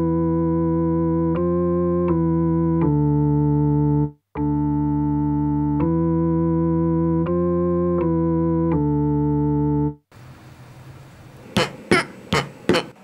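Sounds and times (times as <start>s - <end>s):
electronic keyboard chords: 0.0s - 10.1s, 11.5s - 13.0s.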